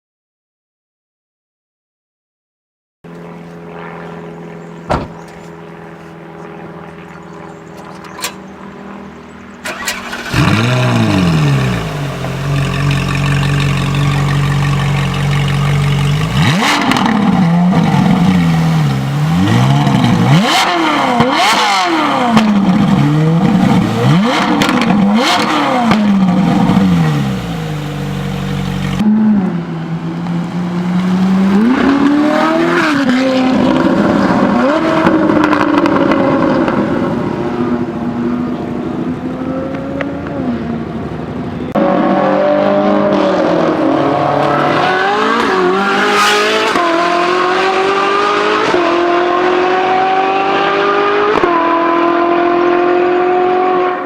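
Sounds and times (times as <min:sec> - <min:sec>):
car engine starting and revving: 0:09.6 - 0:40.9, 0:41.7 - 0:54.0.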